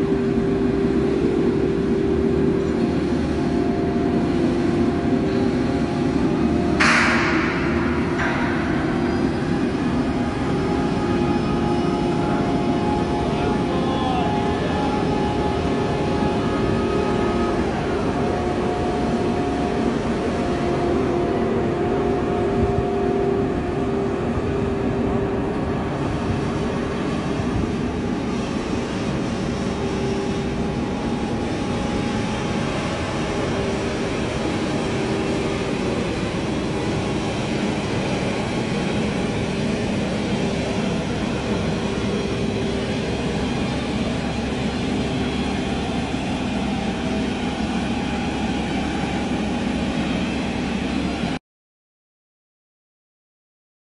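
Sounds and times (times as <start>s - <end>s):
crane machinery hum with whine: 0.0s - 51.4s.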